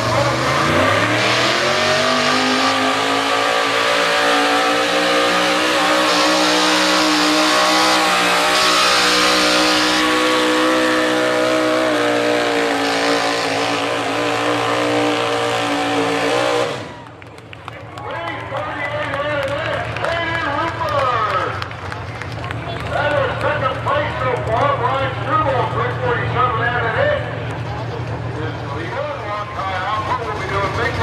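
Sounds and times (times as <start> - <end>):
truck engine at full throttle: 0.0 - 31.0.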